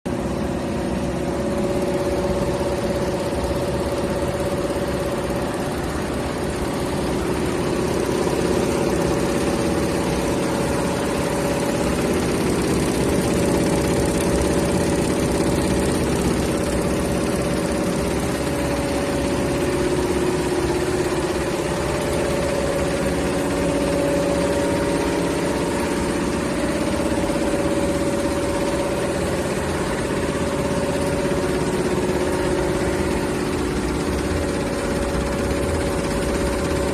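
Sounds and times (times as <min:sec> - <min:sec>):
embroidery machine clattering: 0:00.1 - 0:36.9.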